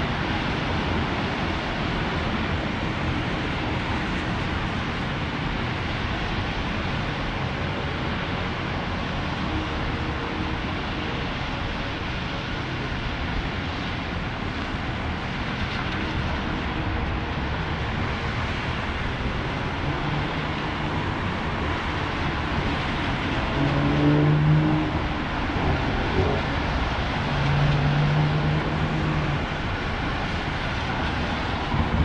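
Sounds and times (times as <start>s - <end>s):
traffic on wet road: 0.0s - 32.0s.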